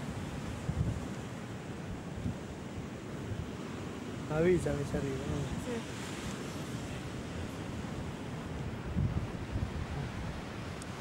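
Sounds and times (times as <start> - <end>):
wind buffeting microphone: 0.0 - 3.6, 4.4 - 11.0.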